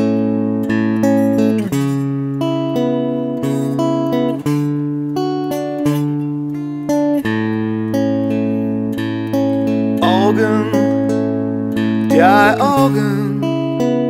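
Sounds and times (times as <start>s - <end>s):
electric guitar picked notes: 0.0s - 14.0s.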